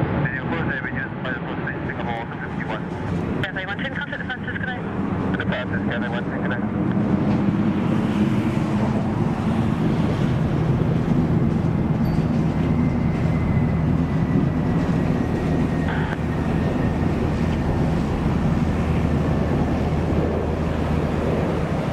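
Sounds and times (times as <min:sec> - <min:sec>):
jet engines deep rumble: 0:00.0 - 0:21.9.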